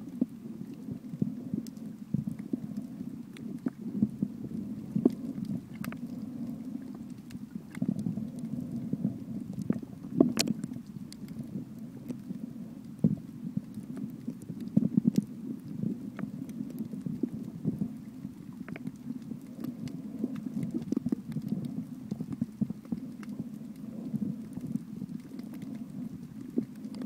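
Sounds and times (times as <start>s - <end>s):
muffled underwater rumble: 0.0s - 27.0s.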